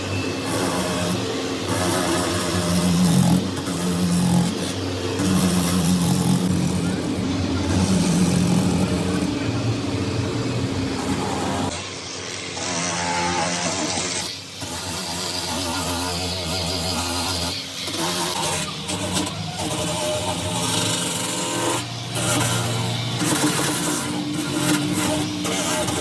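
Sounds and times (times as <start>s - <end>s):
motor running: 0.0s - 26.0s.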